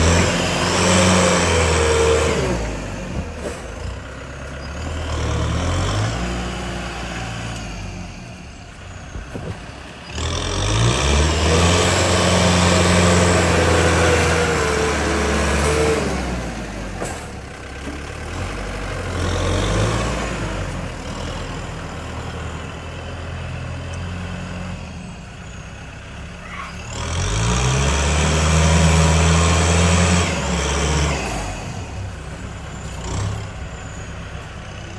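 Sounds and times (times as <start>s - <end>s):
heavy diesel engine revving: 0.0s - 34.9s.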